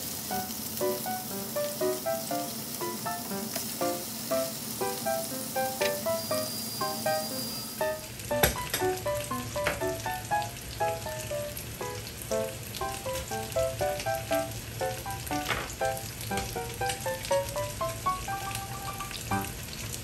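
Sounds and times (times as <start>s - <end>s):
fish sizzling in a frying pan: 0.0s - 20.0s
plucked background music: 0.3s - 19.6s.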